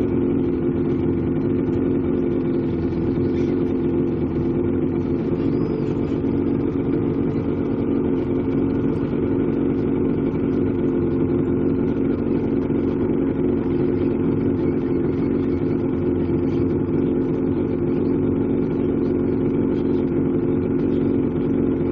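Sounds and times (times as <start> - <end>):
motorboat engine idling: 0.0 - 21.9.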